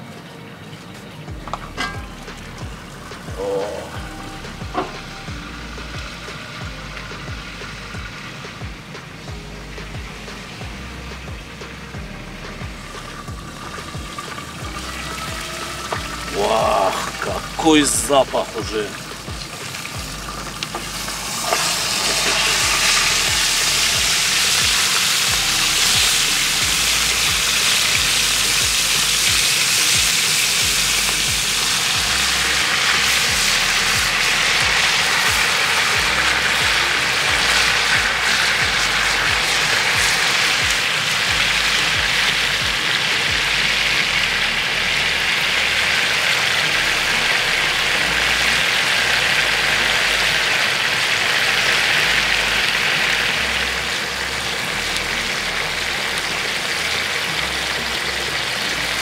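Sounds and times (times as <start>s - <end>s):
chicken frying in hot oil: 1.2s - 59.0s.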